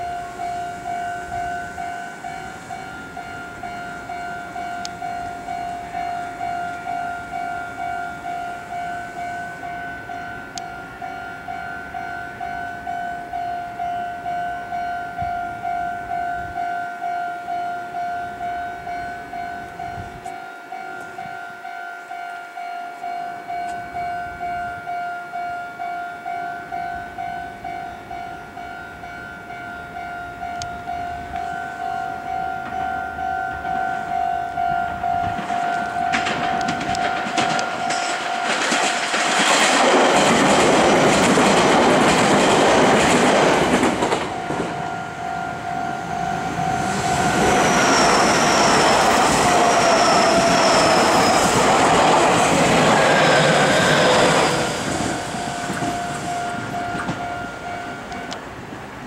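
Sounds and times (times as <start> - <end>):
level crossing warning bell: 0.0 - 59.0.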